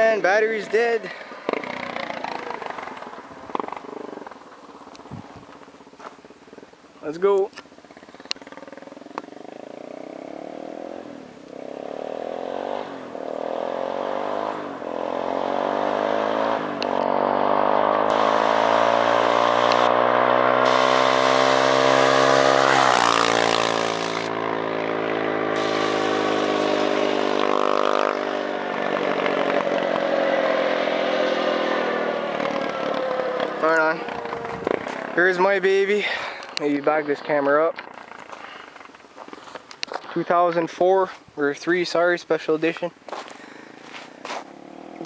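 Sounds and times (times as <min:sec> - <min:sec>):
quad bike engine accelerating: 0:00.0 - 0:06.7, 0:07.5 - 0:39.0, 0:44.3 - 0:45.0.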